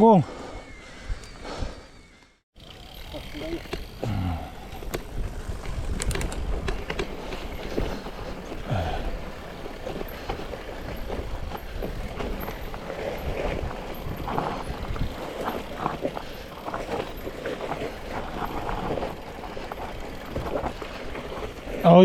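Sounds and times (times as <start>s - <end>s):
tyres on dirt trail: 0.0s - 22.0s
bike rattling and knocking: 2.6s - 22.0s.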